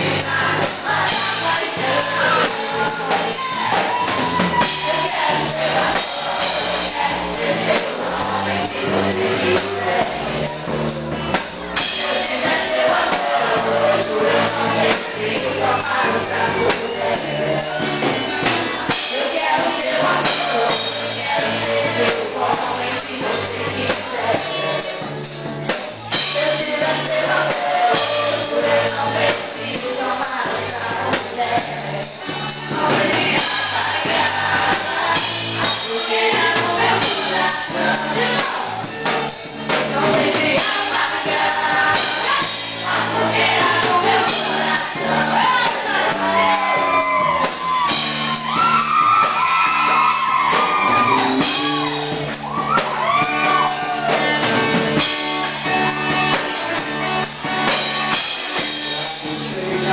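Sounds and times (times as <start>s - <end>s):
person singing: 0.0s - 10.7s, 11.8s - 25.2s, 26.1s - 54.6s, 58.5s - 59.9s
band playing a song: 0.0s - 59.9s.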